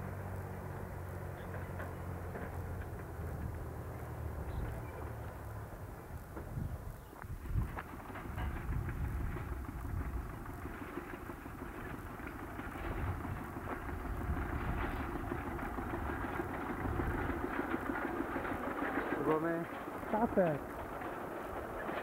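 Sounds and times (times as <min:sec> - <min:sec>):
tractor engine rumbling: 0:00.0 - 0:22.0.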